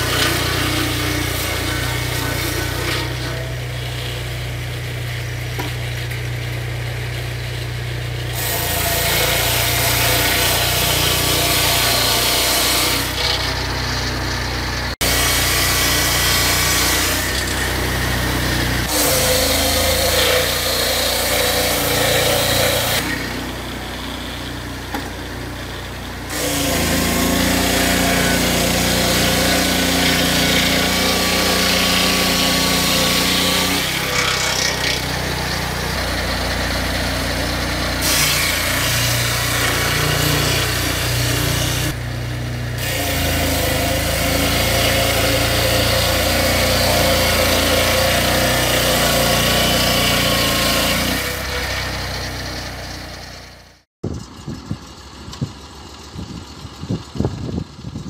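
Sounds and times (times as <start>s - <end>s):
saw blade whining through wood: 0.0s - 58.0s
sawmill engine running: 0.0s - 58.0s.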